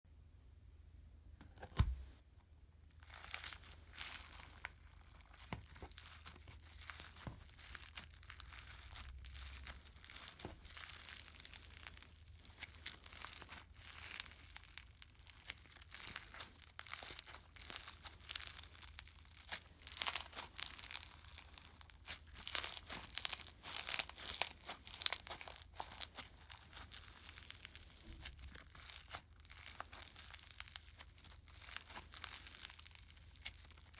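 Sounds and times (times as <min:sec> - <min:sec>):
foam slime crackling: 0:02.9 - 0:33.9.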